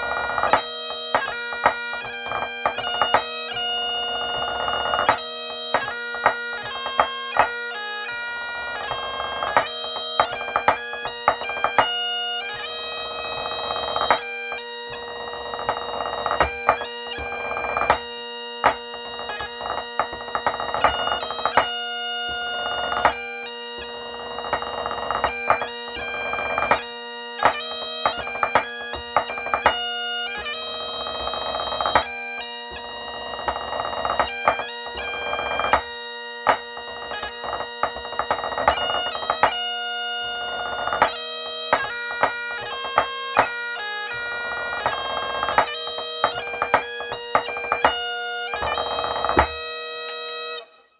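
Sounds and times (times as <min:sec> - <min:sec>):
bagpipe playing a march: 0:00.0 - 0:50.9.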